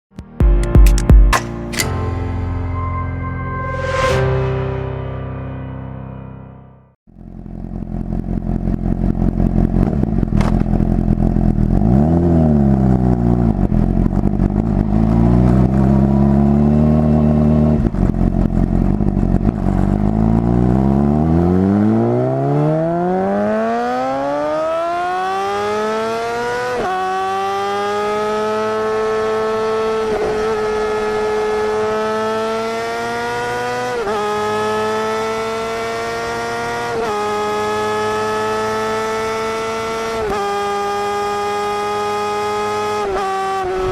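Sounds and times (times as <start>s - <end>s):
motorcycle engine revving: 7.3s - 43.9s.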